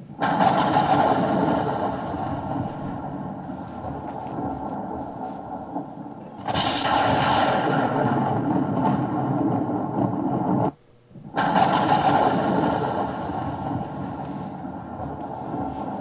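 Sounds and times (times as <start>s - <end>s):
loud thunder clap: 0.0s - 16.0s
thunder rumble: 0.0s - 16.0s.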